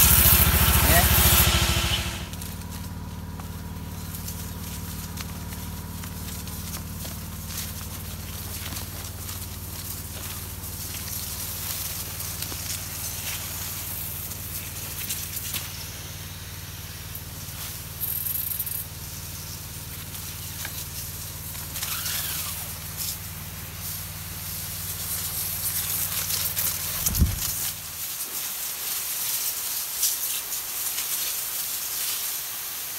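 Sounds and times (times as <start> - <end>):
sprayer pump engine humming: 0.0 - 28.0
spray hissing from nozzle: 6.2 - 32.9.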